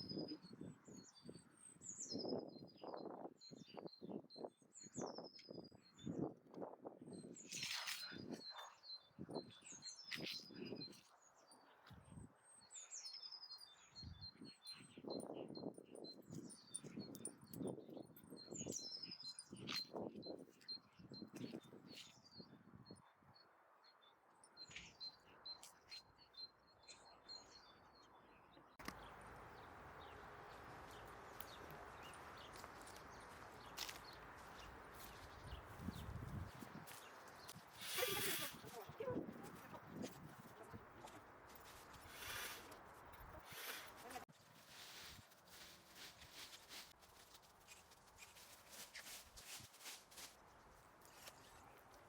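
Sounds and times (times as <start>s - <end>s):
songbirds chirping and trilling: 0.0s - 44.2s.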